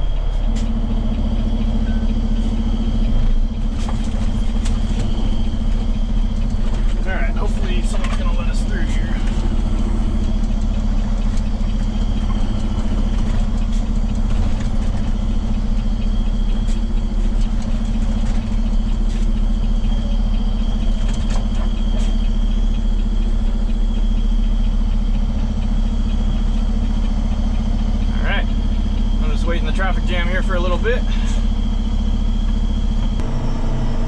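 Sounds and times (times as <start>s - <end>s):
tow truck diesel engine droning: 0.0s - 34.0s.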